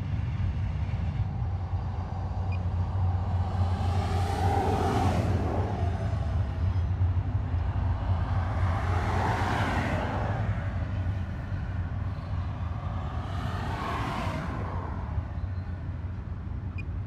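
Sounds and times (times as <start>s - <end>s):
freight train rumbling past: 0.0s - 15.3s.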